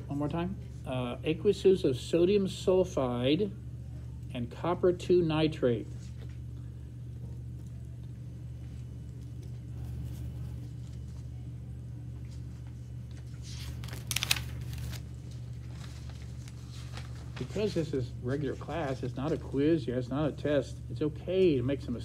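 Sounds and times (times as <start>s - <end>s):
low hum of room machinery: 0.0s - 22.0s.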